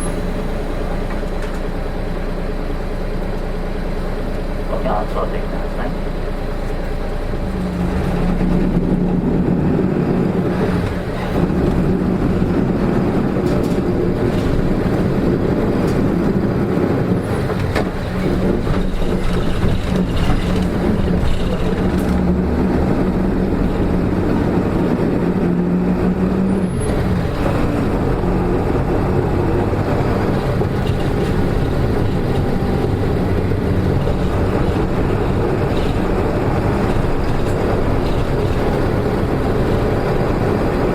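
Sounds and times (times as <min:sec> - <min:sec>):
bus diesel engine: 0:00.0 - 0:40.9
road noise: 0:00.0 - 0:40.9.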